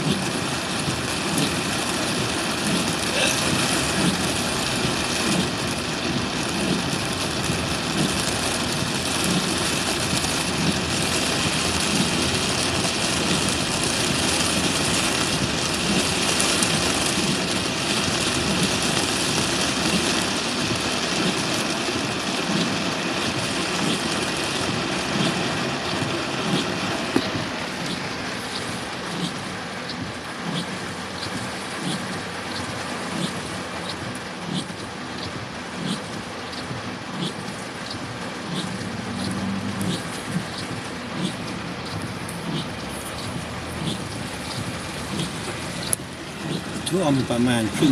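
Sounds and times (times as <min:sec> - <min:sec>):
car engine running: 0:00.0 - 0:47.9
heavy rain pounding on a car: 0:00.0 - 0:47.9.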